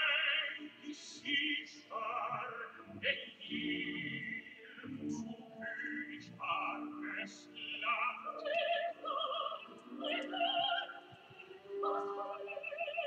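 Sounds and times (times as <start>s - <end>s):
operatic singing with vibrato: 0.0s - 13.0s.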